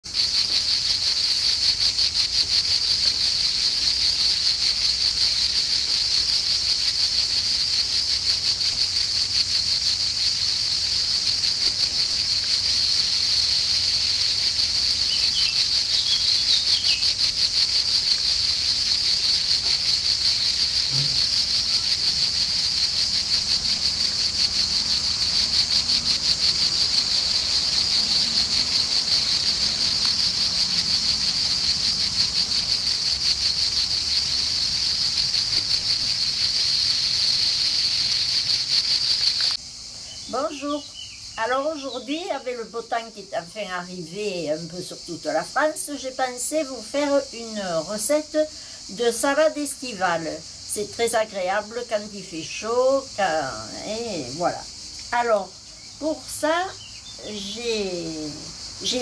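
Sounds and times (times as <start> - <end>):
cicadas buzzing chorus: 0.0 - 59.0.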